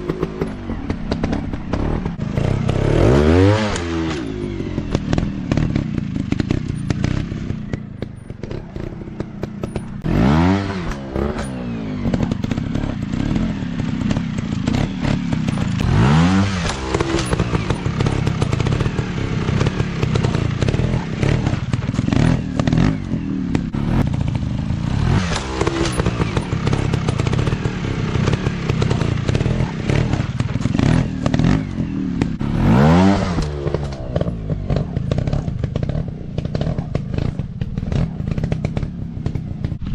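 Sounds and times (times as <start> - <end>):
clatter and thuds: 0.0 - 39.9
dirt bike engines revving: 0.0 - 39.9.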